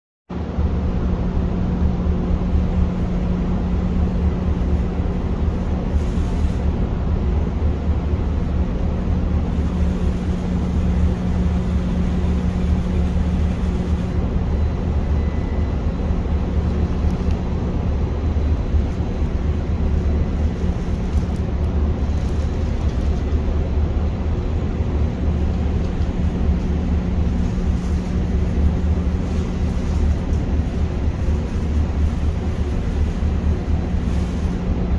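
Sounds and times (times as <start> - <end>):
heavy industrial machinery drone: 0.3 - 34.9.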